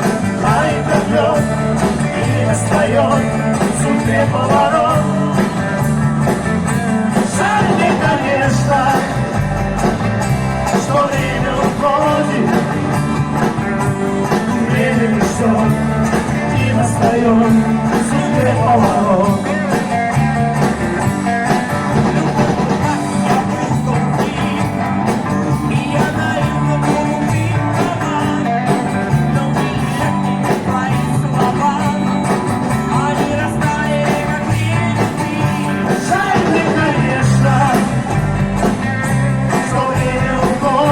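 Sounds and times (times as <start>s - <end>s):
live rock and roll band: 0.0s - 40.9s.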